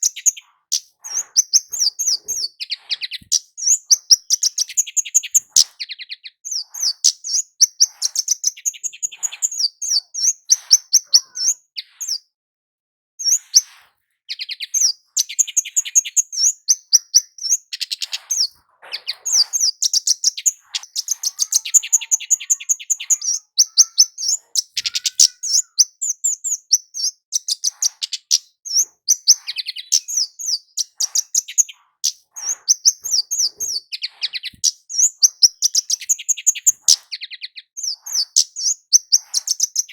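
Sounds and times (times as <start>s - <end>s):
bird high-pitched chirps: 0.0s - 12.3s, 13.2s - 39.9s.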